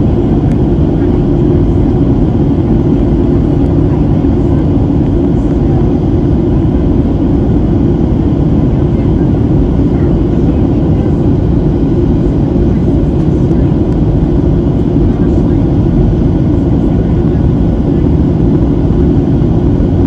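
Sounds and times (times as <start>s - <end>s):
jet engine cabin roar: 0.0s - 20.0s.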